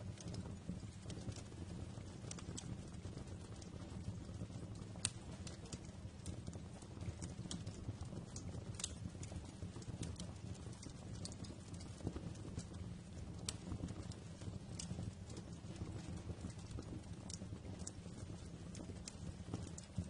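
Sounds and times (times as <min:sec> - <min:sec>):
low rumble of burning: 0:00.0 - 0:20.0
wood fire popping and snapping: 0:00.0 - 0:20.0.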